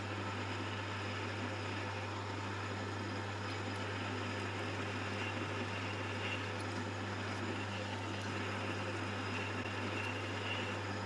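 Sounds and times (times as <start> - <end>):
metal lathe motor hum: 0.0 - 11.0.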